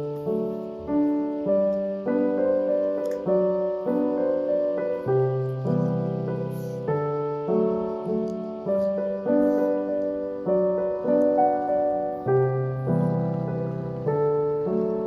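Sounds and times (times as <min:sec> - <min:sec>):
gentle solo piano piece: 0:00.0 - 0:15.0.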